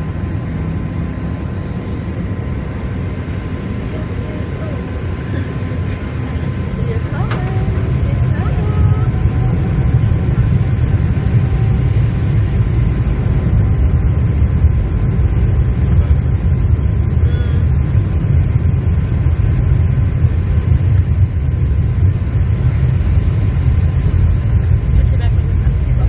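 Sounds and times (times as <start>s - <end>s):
airliner low rumble: 0.0s - 26.0s.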